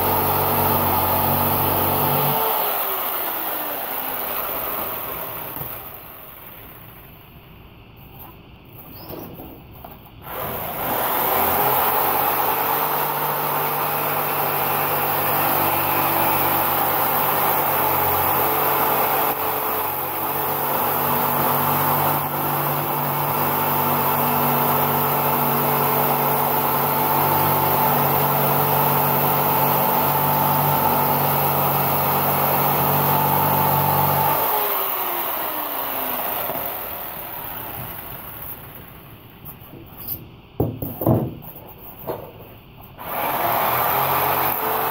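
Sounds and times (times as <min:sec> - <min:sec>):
jigsaw cutting foam: 0:00.0 - 0:07.2, 0:10.2 - 0:39.2, 0:43.0 - 0:44.9.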